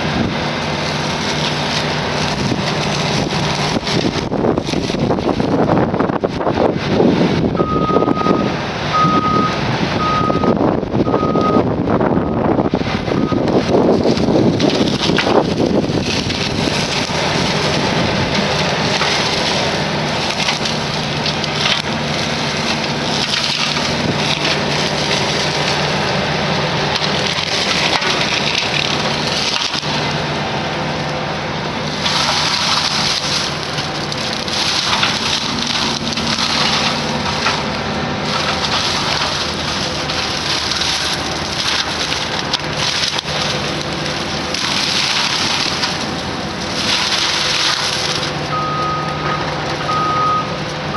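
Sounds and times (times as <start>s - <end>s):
wood cracking and splintering: 0.0s - 7.9s, 10.9s - 50.9s
diesel engine drone: 0.0s - 50.9s
mower head grinding shrubs: 0.0s - 50.9s.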